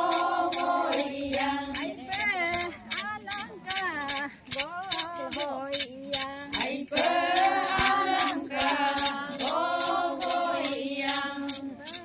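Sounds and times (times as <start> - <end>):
women singing a chant: 0.0 - 12.0.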